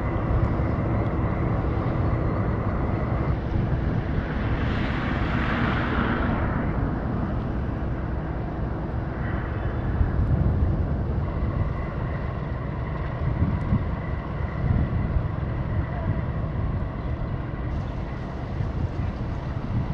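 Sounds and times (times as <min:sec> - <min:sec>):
ship engines low rumble: 0:00.0 - 0:19.9.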